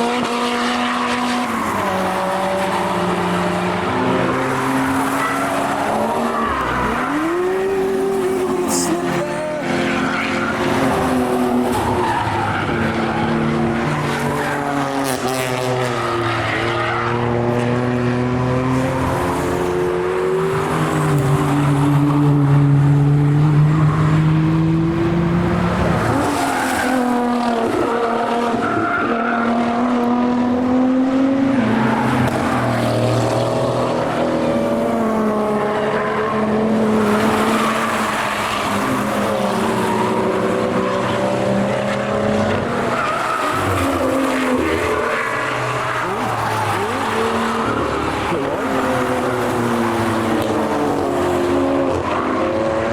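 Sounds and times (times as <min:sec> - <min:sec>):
cars passing with engines revving: 0:00.0 - 0:52.9.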